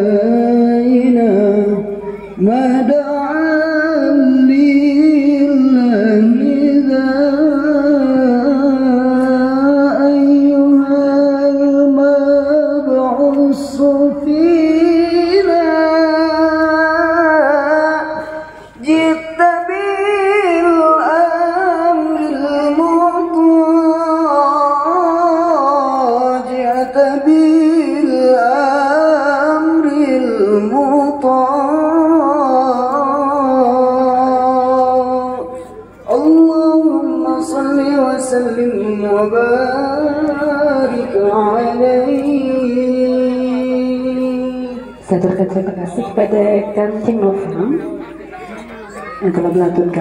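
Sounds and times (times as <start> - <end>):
person singing slow melody: 0.0 - 45.1.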